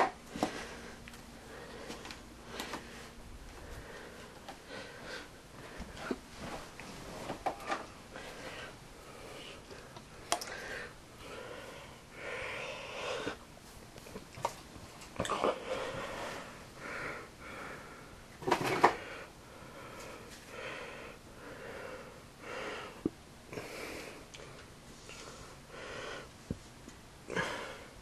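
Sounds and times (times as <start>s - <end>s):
person breathing: 0.0s - 6.6s, 7.2s - 13.4s, 15.3s - 26.5s, 27.3s - 28.0s.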